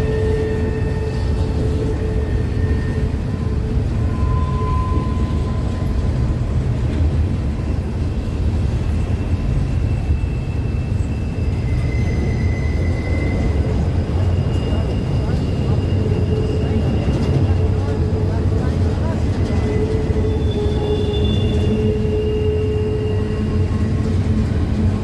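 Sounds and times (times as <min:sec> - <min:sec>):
faint high squeals: 0:00.0 - 0:06.1, 0:08.9 - 0:24.2
train rumbling by: 0:00.0 - 0:25.0.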